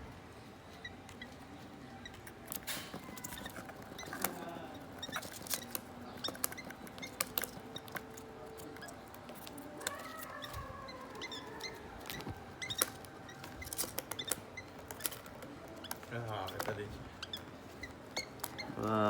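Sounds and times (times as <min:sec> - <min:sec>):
bird chicks clicking and tapping: 0:00.0 - 0:19.0
faint squeaky chick calls: 0:00.0 - 0:19.0.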